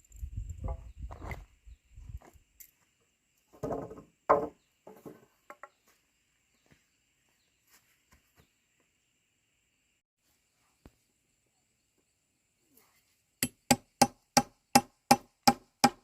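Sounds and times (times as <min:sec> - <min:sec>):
faint insect drone: 0:00.0 - 0:13.7.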